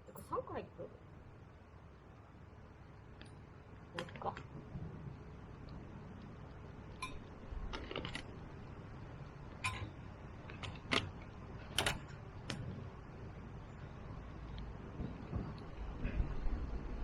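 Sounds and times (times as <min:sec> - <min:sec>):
low steady background noise: 0:00.0 - 0:17.0
firewood crackling and popping: 0:01.1 - 0:17.0.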